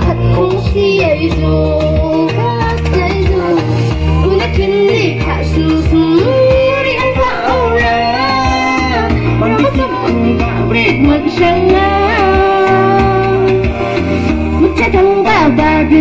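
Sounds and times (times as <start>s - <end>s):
woman singing into a microphone: 0.0s - 13.9s, 14.5s - 16.0s
instrumental accompaniment with bass line: 0.0s - 16.0s.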